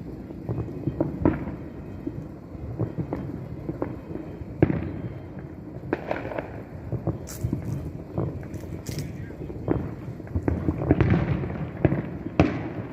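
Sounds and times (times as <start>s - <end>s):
fireworks bangs and pops: 0.0s - 12.9s.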